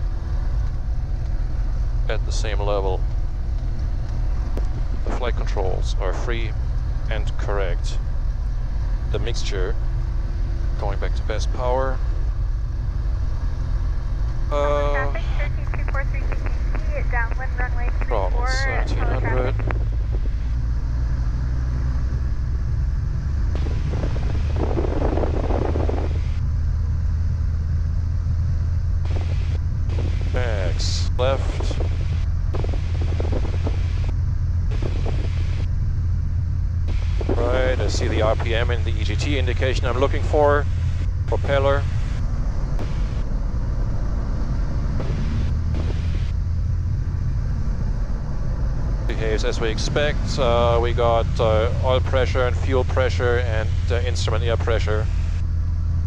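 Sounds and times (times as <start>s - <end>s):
aircraft engine droning: 0.0s - 56.0s.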